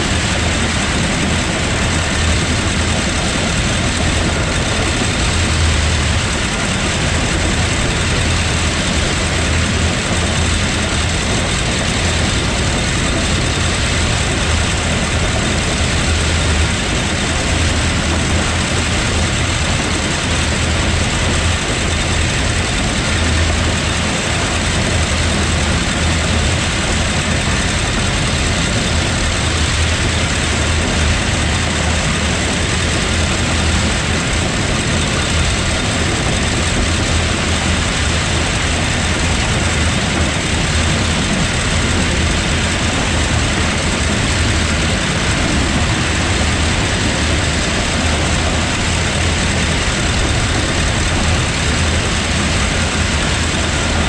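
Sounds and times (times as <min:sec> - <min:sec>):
combine machinery running: 0:00.0 - 0:54.0
tractor engine drone: 0:00.0 - 0:54.0.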